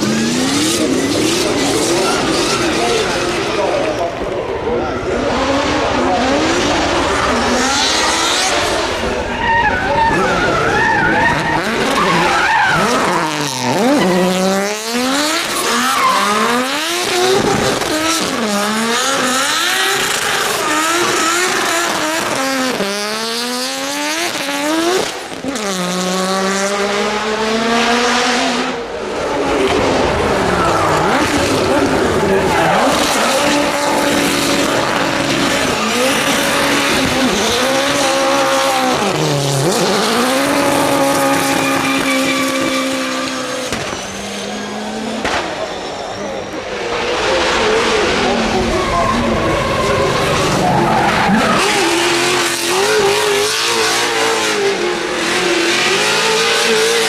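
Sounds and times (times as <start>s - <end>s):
racing car engines at full throttle: 0.0s - 57.0s
racing cars passing by: 0.0s - 57.0s.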